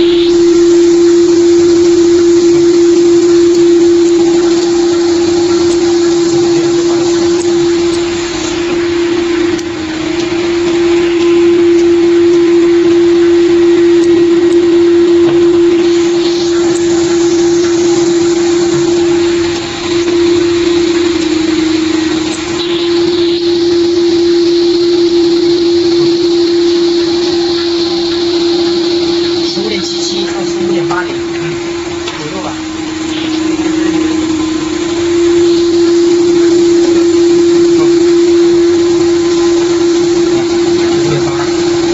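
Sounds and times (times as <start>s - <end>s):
machine motor humming: 0.0s - 41.9s.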